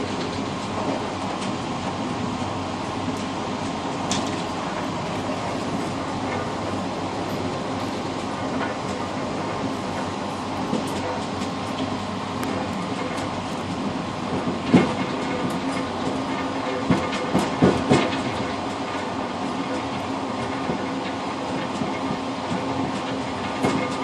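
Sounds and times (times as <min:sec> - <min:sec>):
train rumbling: 0:00.0 - 0:24.0
wheels clacking over rail joints: 0:02.9 - 0:24.0.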